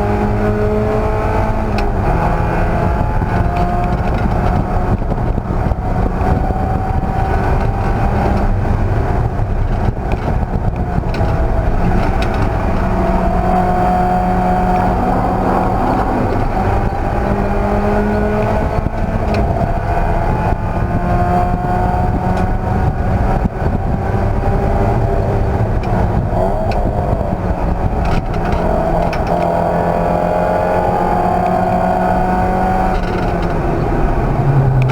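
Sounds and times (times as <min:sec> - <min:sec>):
race car engine at speed: 0:00.0 - 0:34.9
road rumble: 0:00.0 - 0:34.9
wind noise: 0:00.0 - 0:34.9.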